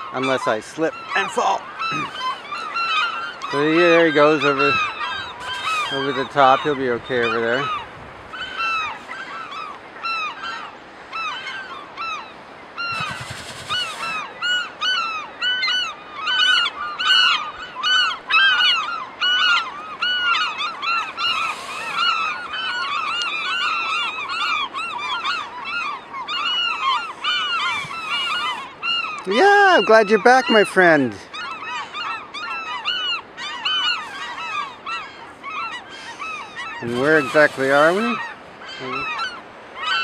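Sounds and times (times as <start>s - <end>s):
gulls calling: 0.0s - 40.0s.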